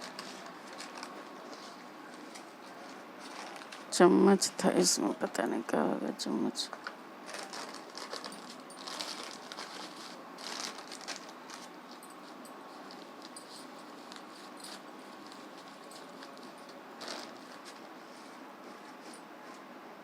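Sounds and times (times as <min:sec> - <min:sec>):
rustling and clicks of supplies: 0:00.0 - 0:04.0, 0:06.7 - 0:19.7.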